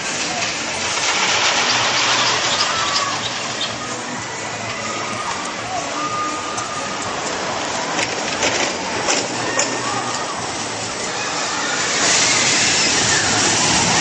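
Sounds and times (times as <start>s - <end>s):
roller coaster train rumbling: 0.0s - 14.0s.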